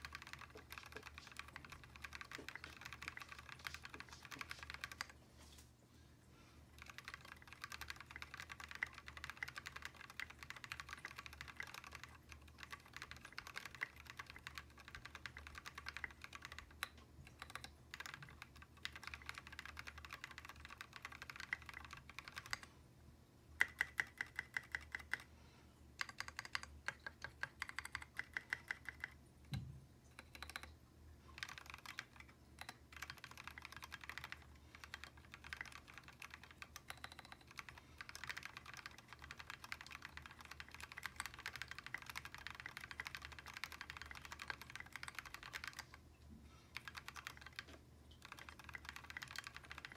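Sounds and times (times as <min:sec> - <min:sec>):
typing on mechanical keyboard: 0:00.0 - 0:05.2, 0:06.7 - 0:22.8, 0:23.6 - 0:25.3, 0:26.0 - 0:46.0, 0:46.7 - 0:49.9.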